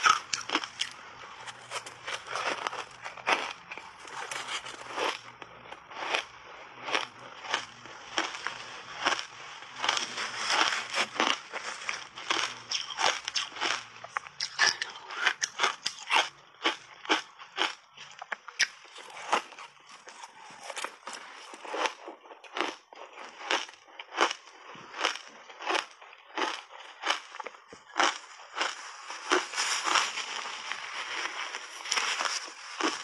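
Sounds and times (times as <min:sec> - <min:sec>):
crunching shaved ice: 0:00.0 - 0:33.0.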